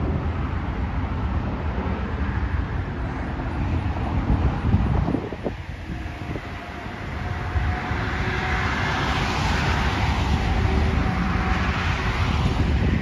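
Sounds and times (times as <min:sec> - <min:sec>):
jet aircraft passing: 0:00.0 - 0:13.0.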